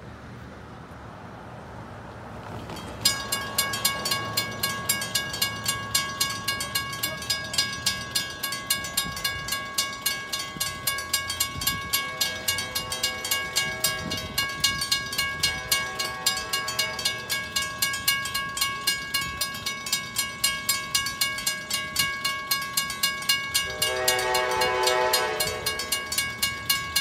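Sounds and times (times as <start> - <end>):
crossing warning bell ringing: 2.4 - 27.0.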